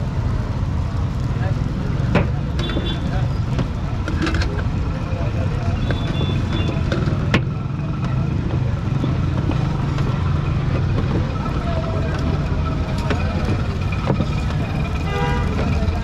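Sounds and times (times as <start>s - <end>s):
low engine rumble: 0.0s - 16.0s
faint voices: 1.2s - 16.0s.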